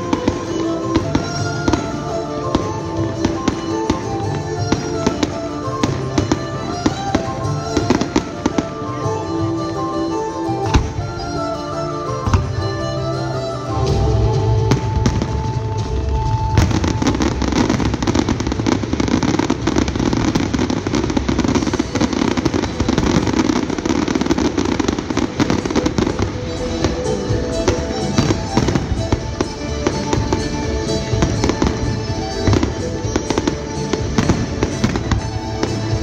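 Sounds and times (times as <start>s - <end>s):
fireworks crackling: 0.0s - 36.0s
music with held notes: 0.0s - 36.0s.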